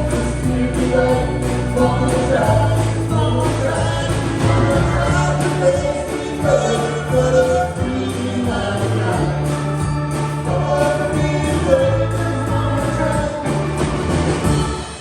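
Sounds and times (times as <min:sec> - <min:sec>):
bass notes: 0:00.0 - 0:15.0
drum beat: 0:00.0 - 0:15.0
person singing: 0:00.0 - 0:15.0.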